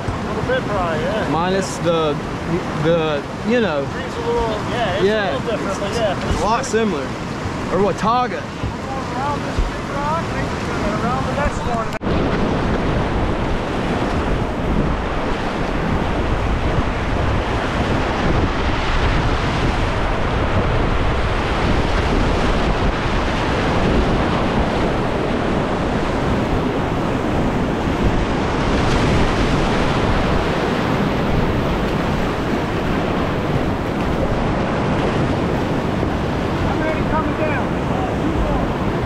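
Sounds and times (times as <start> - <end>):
whitewater rapids rushing: 0.0 - 39.0.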